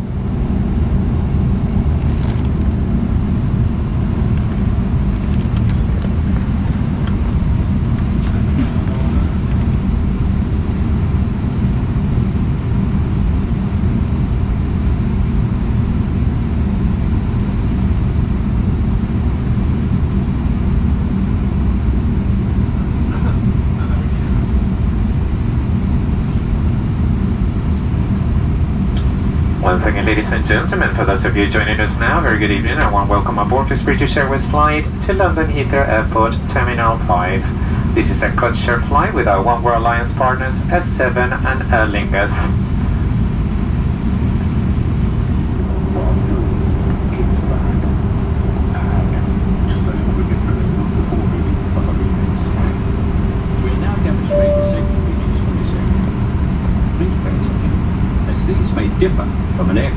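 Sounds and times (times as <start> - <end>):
aircraft cabin rumble and hum: 0.0 - 59.9.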